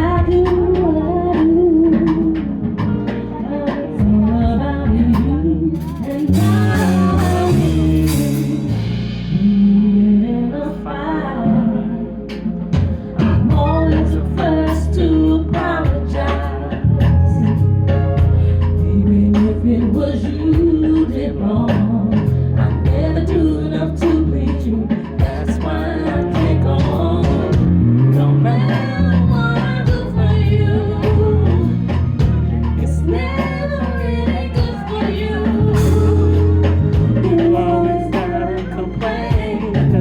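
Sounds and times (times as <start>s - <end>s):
backing track with heavy bass: 0.0s - 40.0s.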